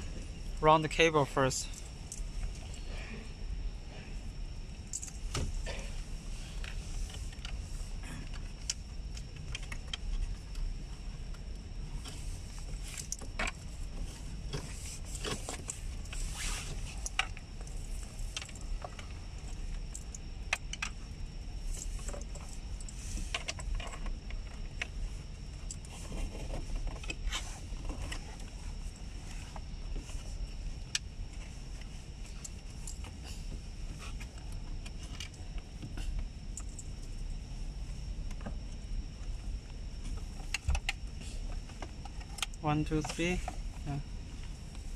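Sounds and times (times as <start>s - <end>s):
faint high whine: 0.0s - 44.9s
steady low hum: 0.0s - 44.9s
cables rustling and scraping: 1.7s - 21.0s, 21.6s - 44.9s.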